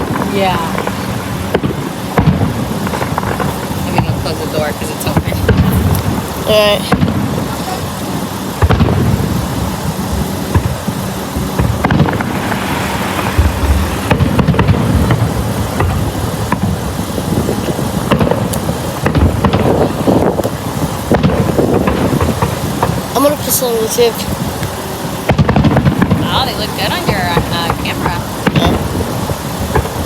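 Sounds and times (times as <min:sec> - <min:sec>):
distant fireworks popping and banging: 0:00.0 - 0:30.0
low rumble: 0:00.0 - 0:30.0.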